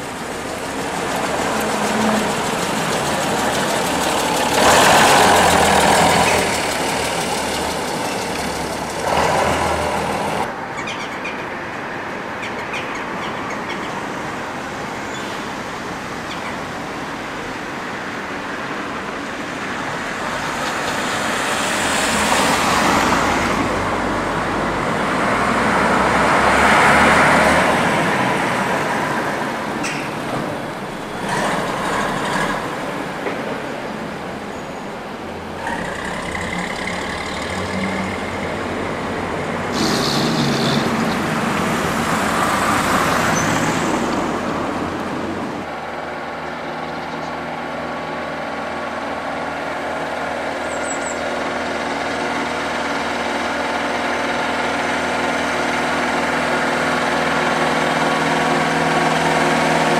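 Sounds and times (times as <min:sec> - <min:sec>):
buses driving past: 0:00.0 - 0:59.9.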